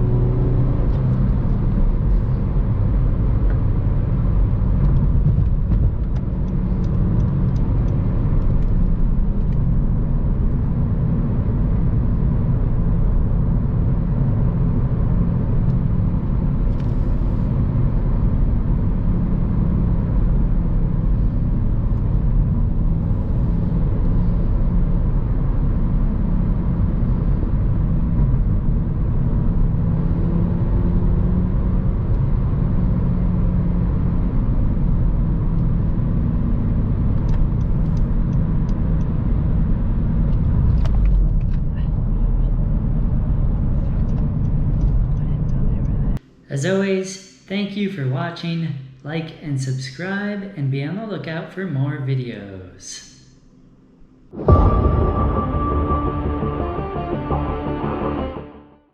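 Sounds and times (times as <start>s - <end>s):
car engine and road noise: 0.0s - 46.8s, 53.4s - 58.9s.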